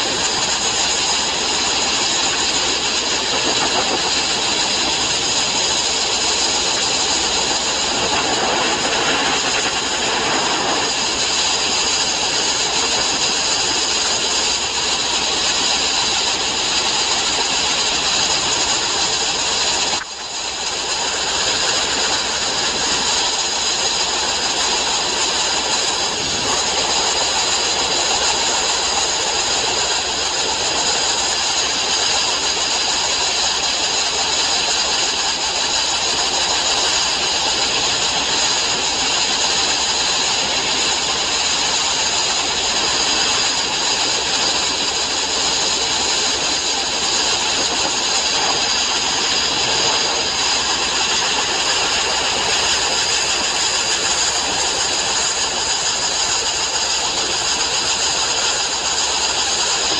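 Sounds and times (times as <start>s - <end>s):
sandblasting hiss: 0.0s - 59.9s.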